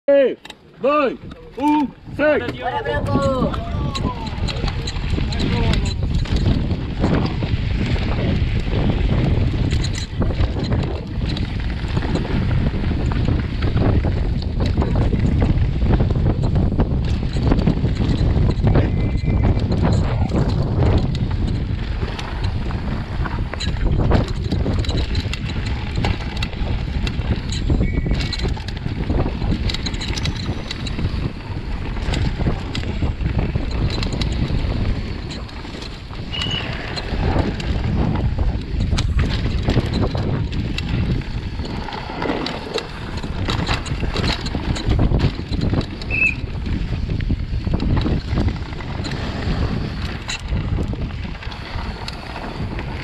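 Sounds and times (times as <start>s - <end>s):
tyres rumbling on dirt: 0.7s - 53.0s
bike knocks and rattles: 1.2s - 53.0s
wind on microphone: 1.2s - 53.0s.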